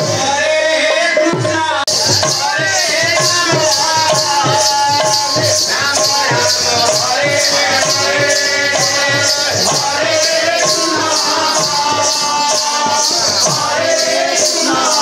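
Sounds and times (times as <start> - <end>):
man singing: 0.0 - 15.0
rhythmic metallic jingling: 0.0 - 15.0.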